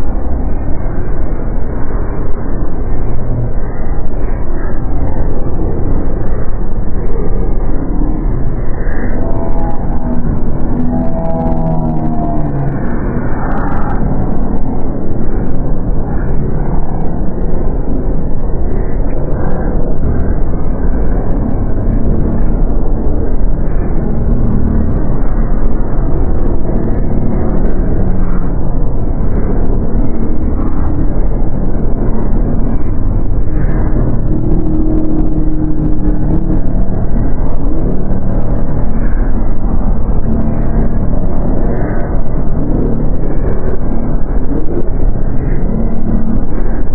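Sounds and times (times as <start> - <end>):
dark ambient low rumble drone: 0.0 - 46.9
short low tones: 0.0 - 46.9.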